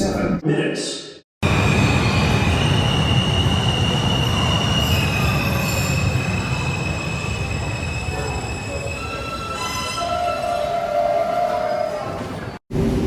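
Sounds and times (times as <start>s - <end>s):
subway train rumble: 1.4s - 13.0s
high-pitched wheel squeal: 1.6s - 12.2s.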